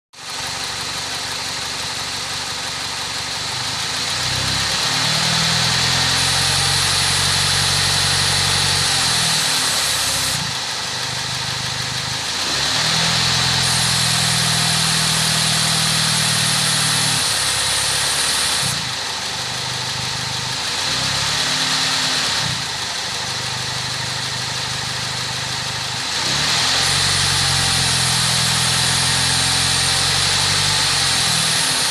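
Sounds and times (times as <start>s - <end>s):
car engine revving: 3.4s - 31.9s.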